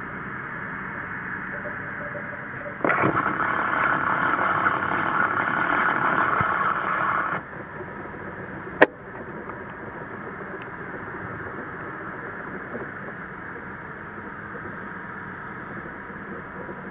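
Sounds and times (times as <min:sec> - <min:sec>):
jet engines whining: 0:00.0 - 0:16.9.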